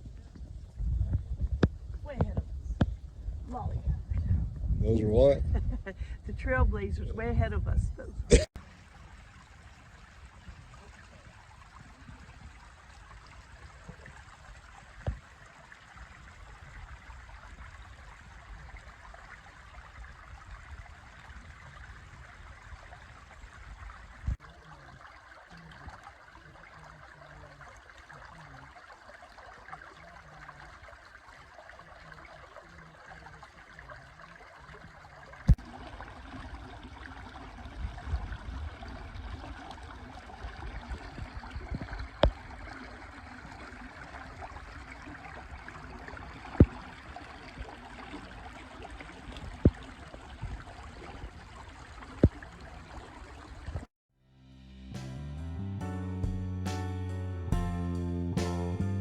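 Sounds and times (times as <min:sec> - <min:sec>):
creek water flowing: 0:00.0 - 0:53.9.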